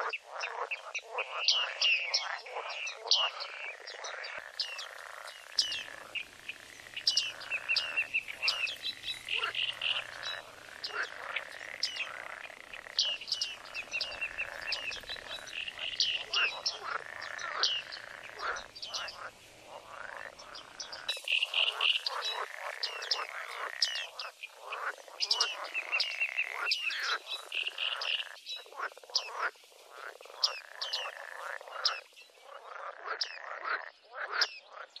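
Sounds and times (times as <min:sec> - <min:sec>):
background bird chorus: 0:00.0 - 0:35.0.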